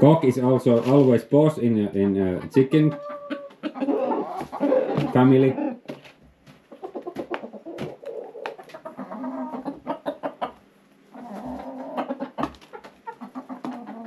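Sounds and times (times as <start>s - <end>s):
hens clucking softly: 0.0s - 14.0s.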